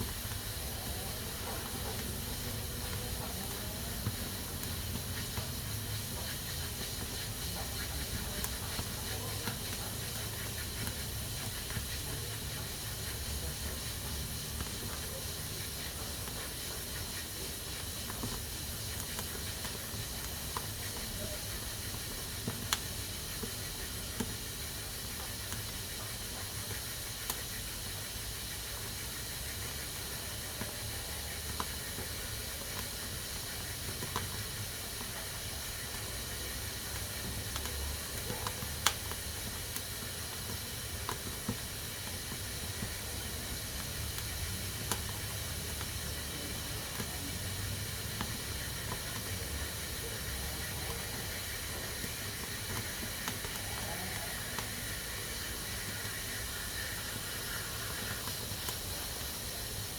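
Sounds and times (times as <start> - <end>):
pressure cooker hissing: 0.0 - 59.9.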